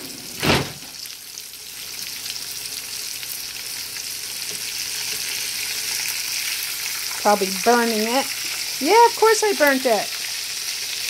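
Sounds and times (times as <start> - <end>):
cutlets sizzling in oil: 0.0 - 11.0
spatula in frying pan: 1.3 - 11.0.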